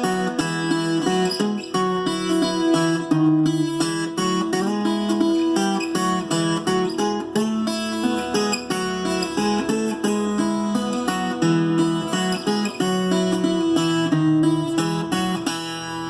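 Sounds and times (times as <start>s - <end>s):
plucked guitar melody: 0.0s - 16.0s.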